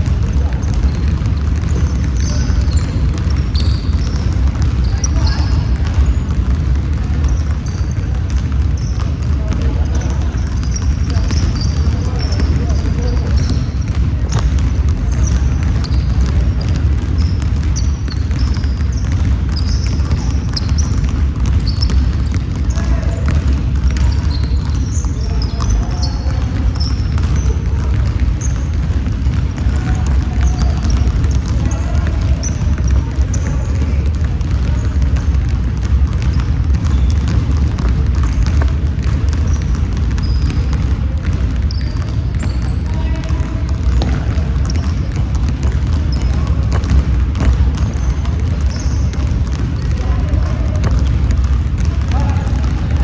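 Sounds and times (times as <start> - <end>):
basketball bouncing: 0.0 - 53.0
sneaker squeaks on floor: 0.0 - 53.0.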